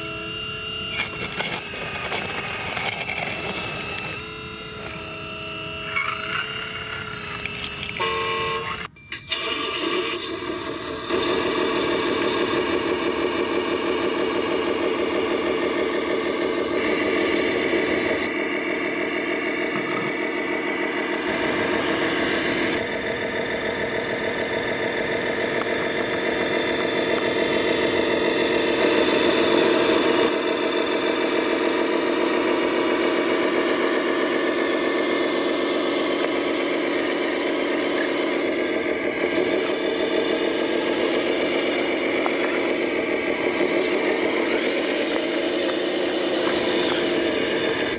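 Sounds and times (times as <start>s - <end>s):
toy truck motor drone: 0.0s - 47.9s.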